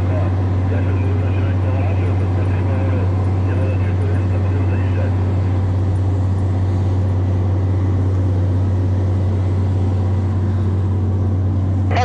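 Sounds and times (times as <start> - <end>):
low machine hum with hiss: 0.0 - 12.0.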